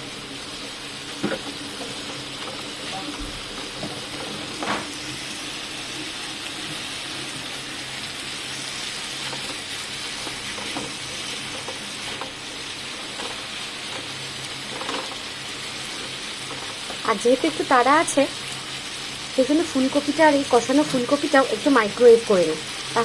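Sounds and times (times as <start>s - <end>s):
cauliflower sizzling in a pan: 0.0s - 23.0s.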